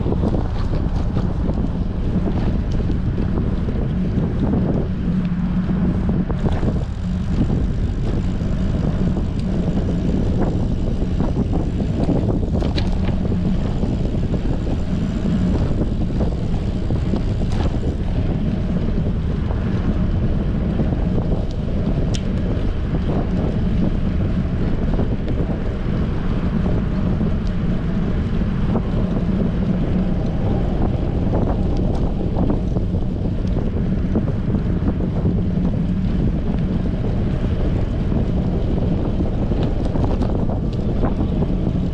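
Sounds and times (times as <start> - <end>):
low hum: 0.0 - 41.9
wind buffeting microphone: 0.0 - 41.9.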